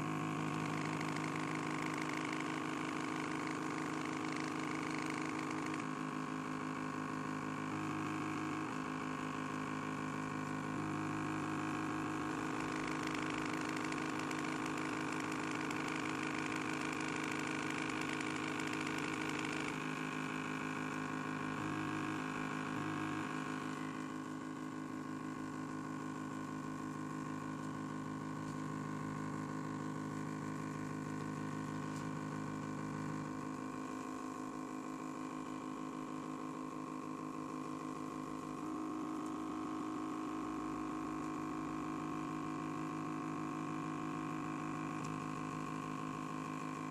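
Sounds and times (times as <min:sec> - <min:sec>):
stepper motor humming whine: 0:00.0 - 0:46.9.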